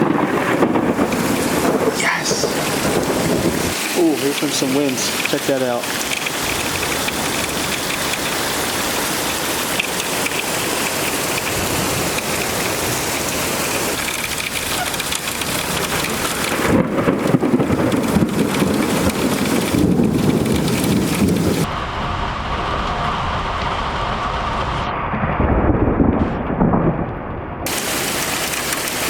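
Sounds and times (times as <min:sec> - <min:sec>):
gusty wind: 0:00.0 - 0:27.7
deep thunder rumble: 0:00.0 - 0:29.0
heavy rain pouring: 0:00.0 - 0:29.0.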